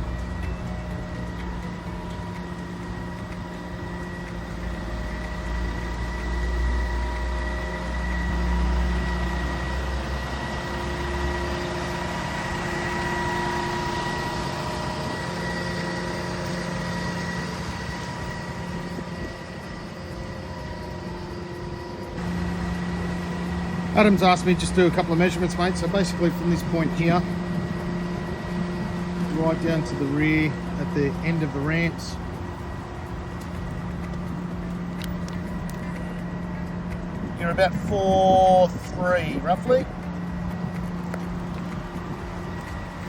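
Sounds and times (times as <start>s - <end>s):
deep rumble: 0.0s - 43.0s
truck idling with high whine: 0.0s - 43.0s.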